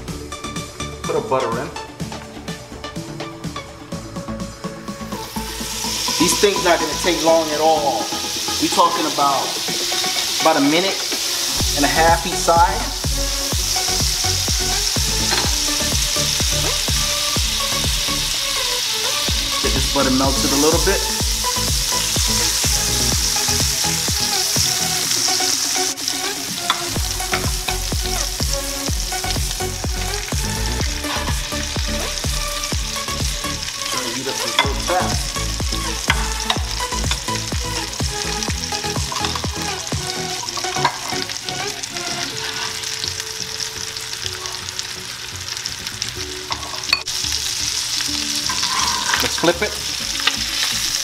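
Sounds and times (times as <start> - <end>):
butter and oil sizzling: 0.0 - 51.0.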